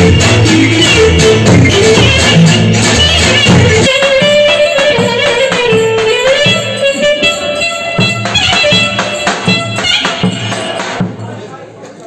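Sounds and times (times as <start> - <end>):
bass drum beat: 0.0 - 11.2
folk instrumental melody: 0.0 - 11.3.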